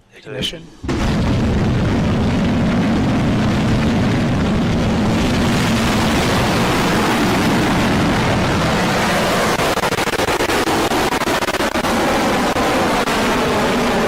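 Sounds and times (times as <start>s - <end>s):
rocket engines firing: 0.8s - 14.0s.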